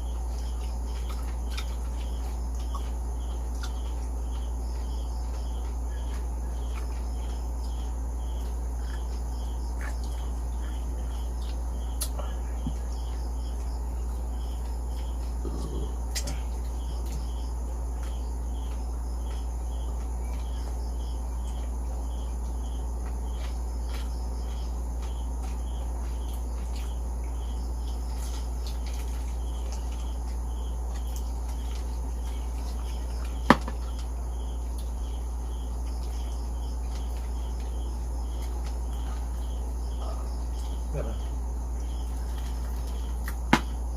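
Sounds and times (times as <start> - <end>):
constant low hum: 0.0 - 43.9
crickets chirping: 0.0 - 43.9.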